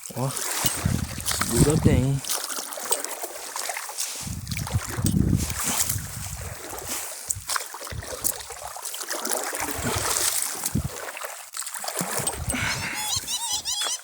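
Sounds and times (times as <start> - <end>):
water splashing around boat: 0.0 - 14.0.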